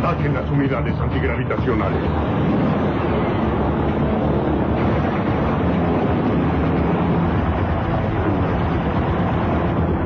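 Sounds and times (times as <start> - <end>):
rumble of flying attack craft: 0.0 - 10.0.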